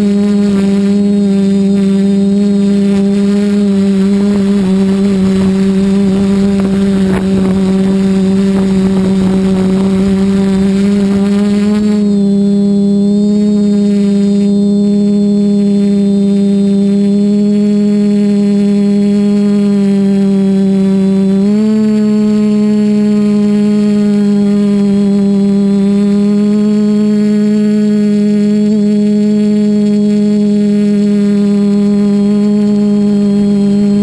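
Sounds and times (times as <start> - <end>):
drone propellers whirring: 0.0 - 34.0.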